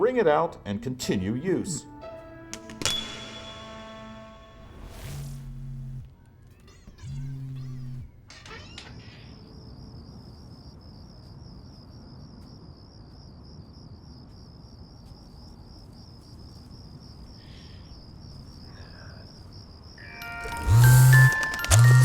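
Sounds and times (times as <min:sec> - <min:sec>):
crickets chirping: 0:01.1 - 0:22.0.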